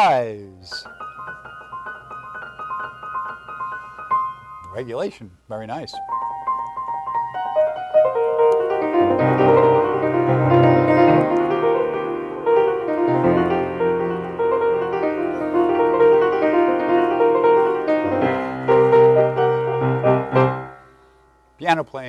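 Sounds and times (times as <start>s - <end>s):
grand piano playing: 0.0s - 5.2s, 5.8s - 21.8s.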